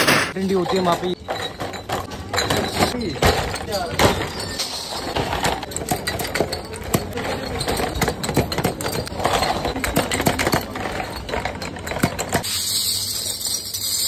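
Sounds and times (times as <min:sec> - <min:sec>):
glass bottles clinking: 0:00.0 - 0:14.0.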